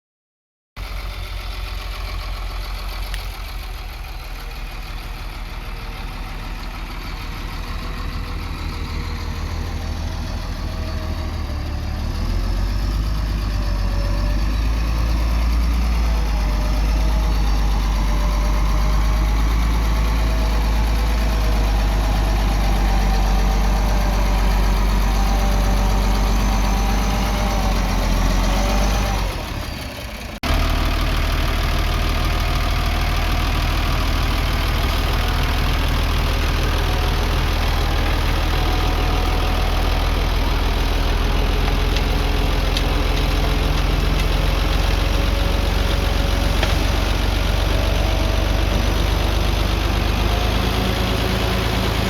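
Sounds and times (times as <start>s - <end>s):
heavy machine diesel engine: 0.8s - 52.0s.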